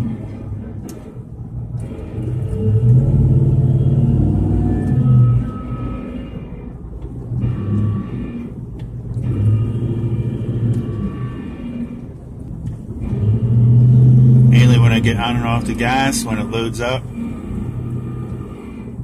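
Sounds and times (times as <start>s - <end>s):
rear differential whining: 0.0s - 19.0s
truck driving rumble: 0.0s - 19.0s.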